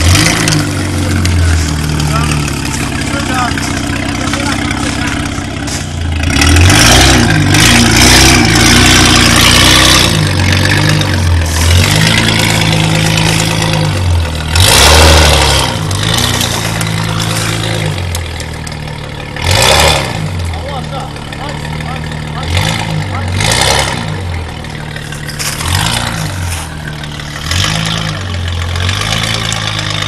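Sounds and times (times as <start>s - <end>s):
engine revving hard: 0.0s - 30.0s.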